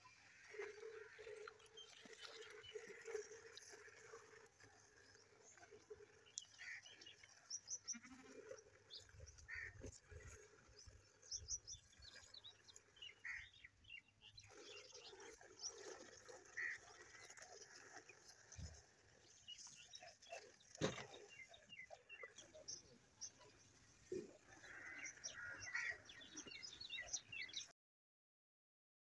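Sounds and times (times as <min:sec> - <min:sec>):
faint birds chirping: 0:00.3 - 0:27.7.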